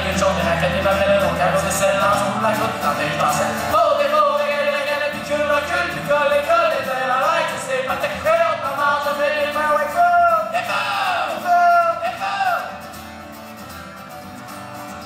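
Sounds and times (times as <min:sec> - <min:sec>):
man singing: 0:00.0 - 0:12.8
strummed acoustic guitar: 0:00.0 - 0:15.0.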